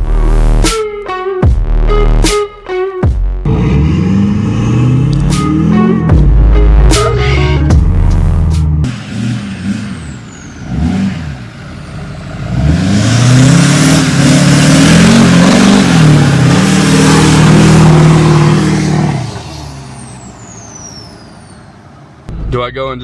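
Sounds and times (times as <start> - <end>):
diesel pickup engine accelerating: 3.4 - 22.4.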